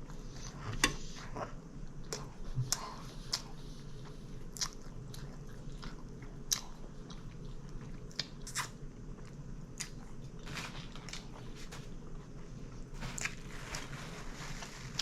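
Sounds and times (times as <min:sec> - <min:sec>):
person chewing sandwich: 0:01.2 - 0:15.0.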